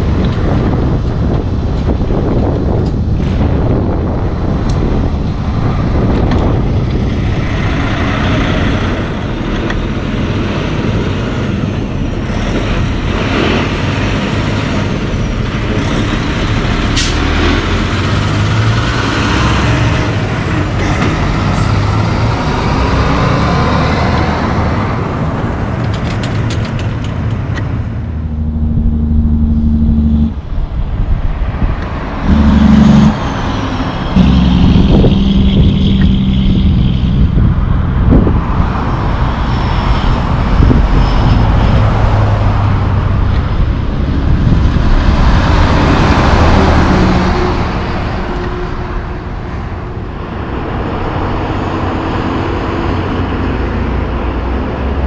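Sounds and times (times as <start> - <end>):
steady engine hum: 0.0 - 55.0
trucks passing: 0.0 - 55.0.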